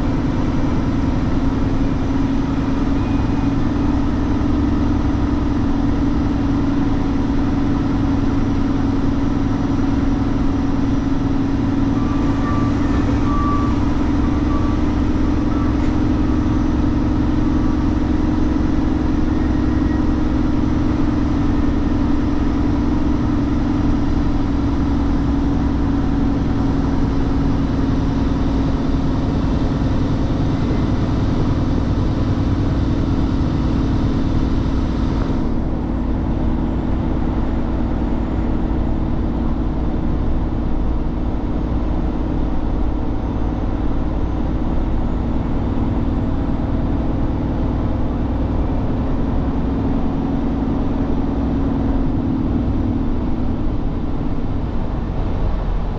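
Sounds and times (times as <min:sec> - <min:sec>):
road noise hiss: 0:00.0 - 0:55.9
truck engine running: 0:00.0 - 0:55.9.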